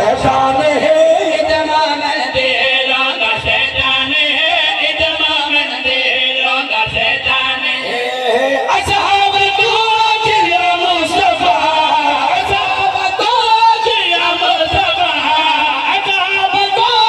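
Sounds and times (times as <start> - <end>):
men chanting into microphones: 0.0 - 17.0.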